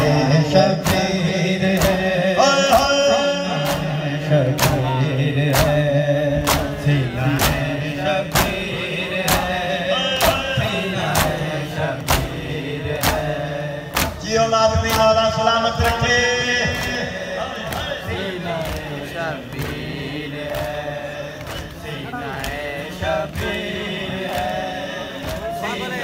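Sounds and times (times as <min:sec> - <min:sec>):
men chanting a lament: 0:00.0 - 0:26.0
rhythmic chest-beating slaps: 0:00.0 - 0:26.0.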